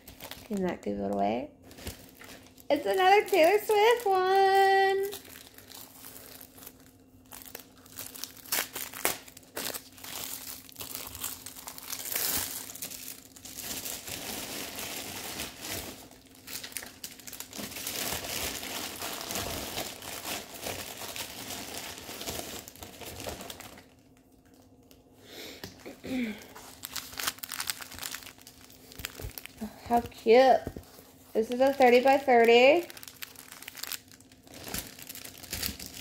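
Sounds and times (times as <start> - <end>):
plastic wrapping crinkling: 0.0 - 25.1, 26.1 - 36.0.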